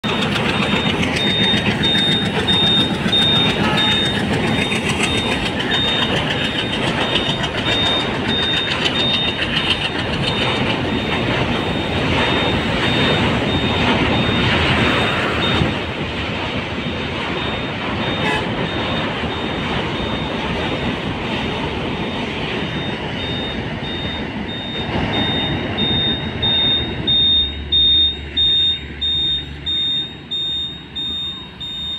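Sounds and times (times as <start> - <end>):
train wheels rumbling on bridge: 0.0 - 31.9.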